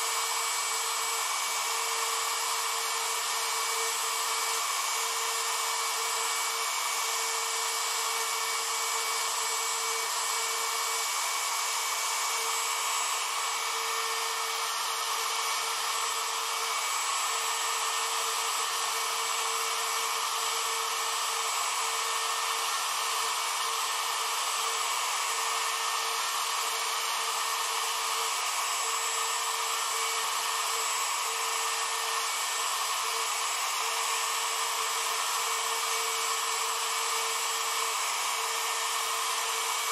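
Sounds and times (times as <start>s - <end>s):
engraving bit cutting hiss: 0.0s - 39.9s
router spindle whining: 0.0s - 39.9s.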